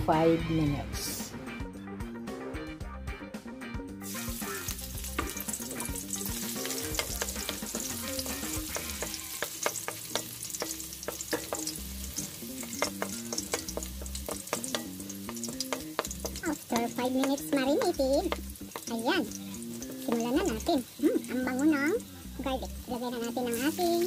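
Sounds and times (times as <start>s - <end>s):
garlic sizzling in hot oil: 4.0s - 24.0s.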